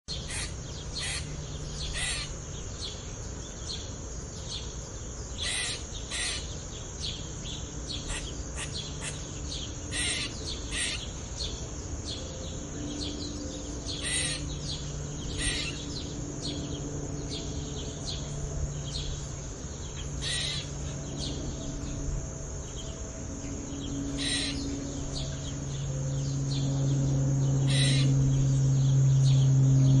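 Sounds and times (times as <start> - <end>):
steady low hum: 0.1 - 30.0
wild birds calling: 0.1 - 30.0.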